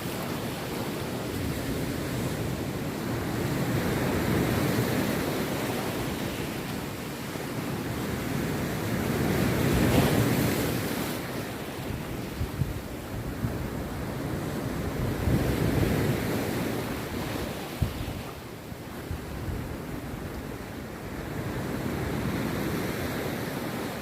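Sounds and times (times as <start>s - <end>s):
sea surf breaking on beach: 0.0s - 24.0s
wind buffeting microphone: 0.0s - 24.0s.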